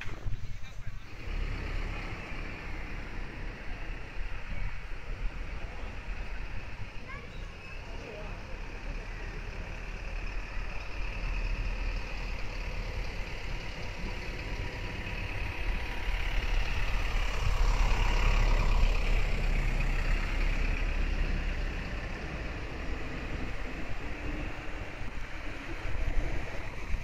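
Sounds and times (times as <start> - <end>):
road vehicle passing: 0.0 - 27.0.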